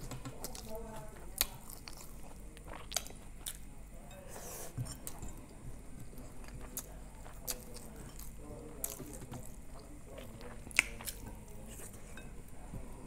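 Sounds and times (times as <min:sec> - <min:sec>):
wet chewing: 0:00.0 - 0:03.7, 0:04.3 - 0:12.7.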